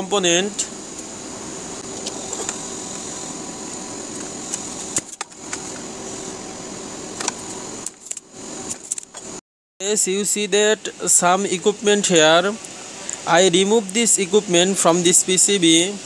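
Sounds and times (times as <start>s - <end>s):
workshop background hum: 0.0s - 16.0s.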